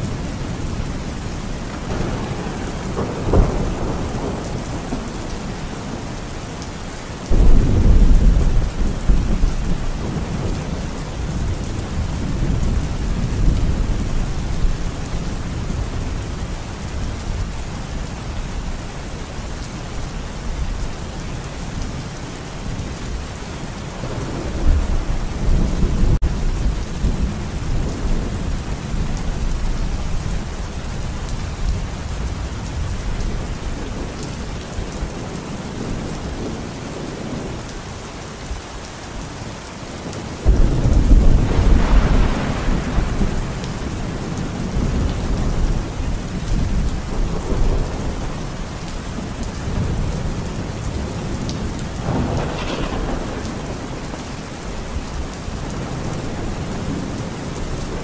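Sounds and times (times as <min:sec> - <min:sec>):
thunder rumbling: 0:00.0 - 0:06.2, 0:07.2 - 0:18.8, 0:22.6 - 0:37.7, 0:40.0 - 0:58.0
heavy rain pouring: 0:00.0 - 0:58.0.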